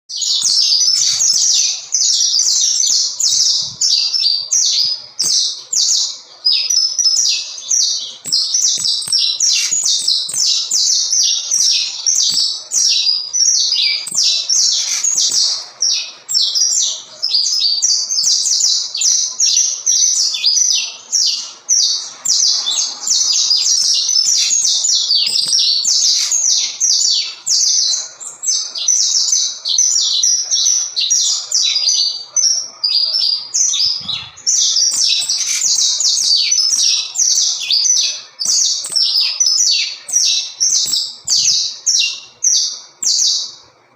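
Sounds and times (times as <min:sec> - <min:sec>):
finch singing: 0:00.1 - 0:43.7.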